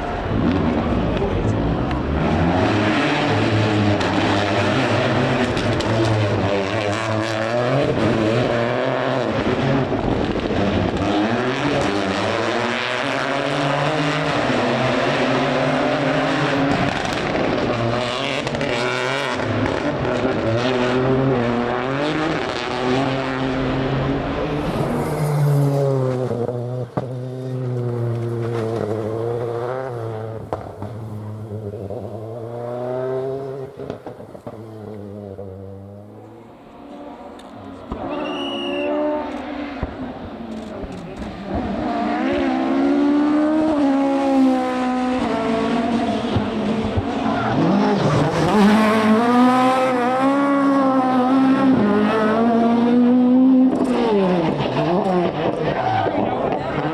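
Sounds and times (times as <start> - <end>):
rally car engine revving: 0.0 - 56.9.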